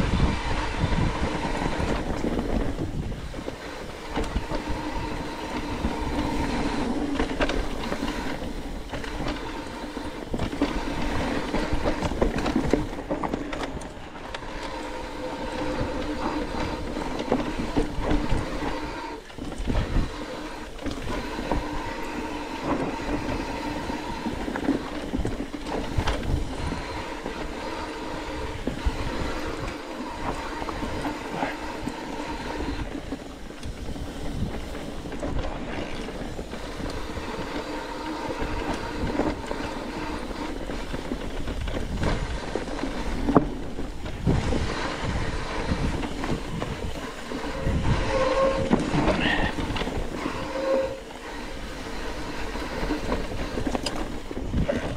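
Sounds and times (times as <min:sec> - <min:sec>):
bicycle freehub buzzing whir: 0:00.0 - 0:54.9
bike rattles and knocks: 0:00.0 - 0:54.9
wind rumble on microphone: 0:00.0 - 0:54.9.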